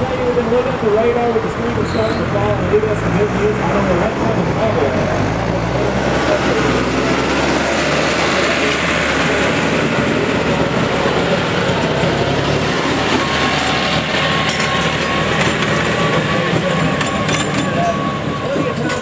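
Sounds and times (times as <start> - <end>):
diesel tractor engines: 0.0 - 19.0.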